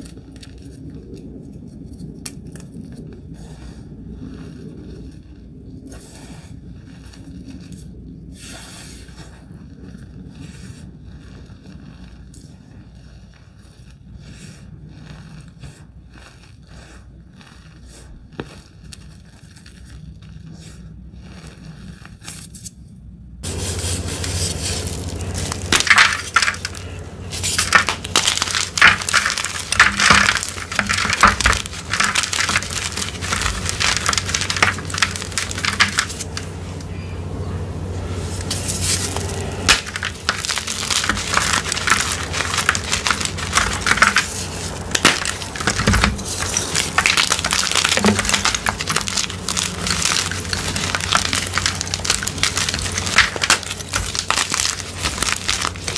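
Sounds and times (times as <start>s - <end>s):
hands crushing chalk blocks: 0.0s - 22.8s, 23.4s - 36.9s, 38.3s - 55.9s.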